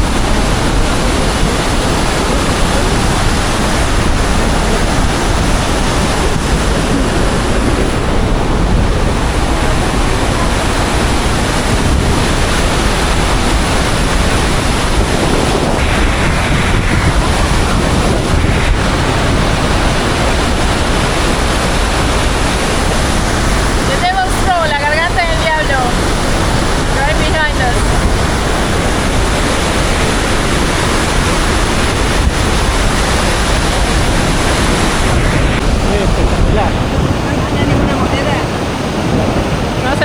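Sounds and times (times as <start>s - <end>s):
waterfall rushing: 0.0s - 40.0s
wind on microphone: 0.0s - 40.0s.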